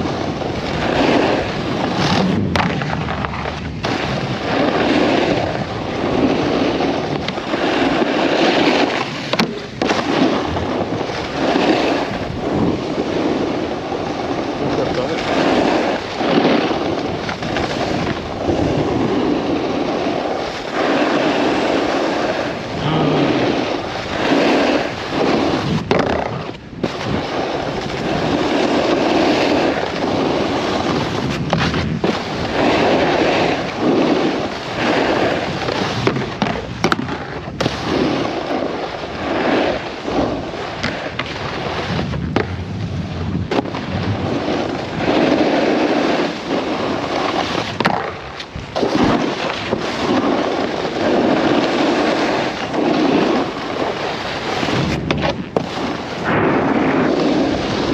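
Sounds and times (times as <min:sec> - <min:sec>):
snowboard carving over snow: 0:00.0 - 0:57.9
snowboard clacks: 0:00.0 - 0:57.9.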